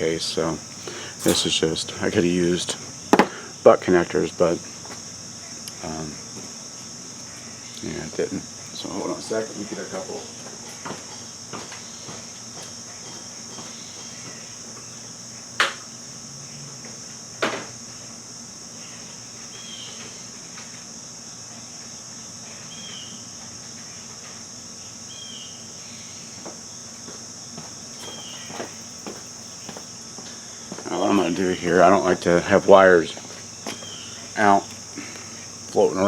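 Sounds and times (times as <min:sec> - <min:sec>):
cricket chorus: 0:00.0 - 0:36.0.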